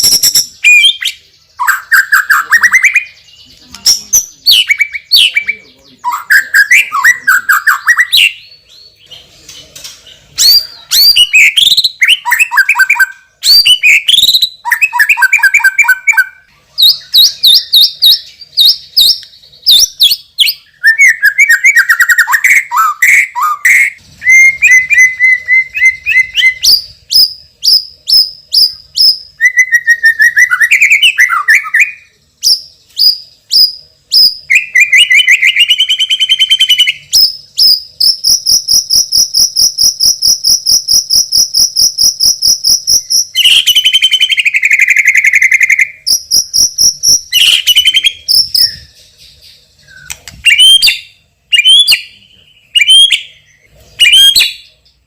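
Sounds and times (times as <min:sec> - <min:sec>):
bird singing whistled phrases: 0:00.0 - 0:09.0, 0:10.4 - 0:39.7, 0:42.4 - 0:49.0, 0:49.8 - 0:54.7.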